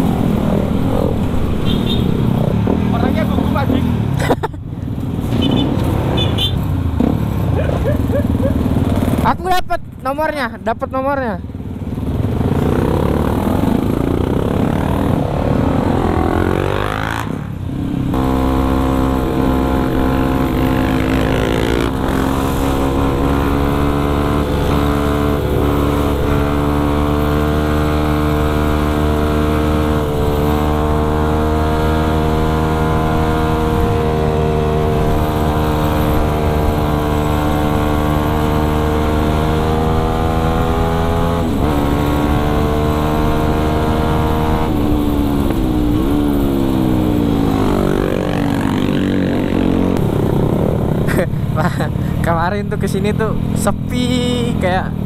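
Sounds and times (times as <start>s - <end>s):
motorcycle engine revving: 0.0s - 4.3s, 4.9s - 9.4s, 11.5s - 55.0s.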